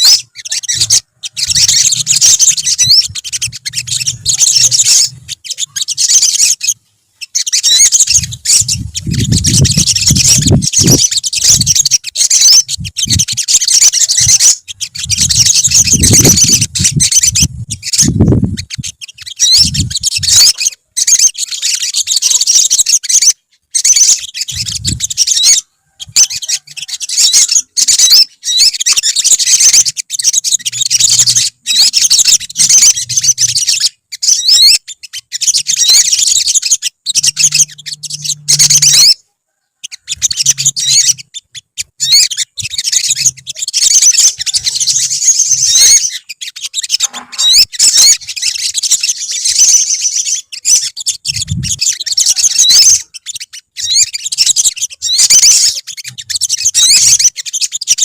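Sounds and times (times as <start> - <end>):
sunbirds chirping and trilling: 0.0 - 58.0.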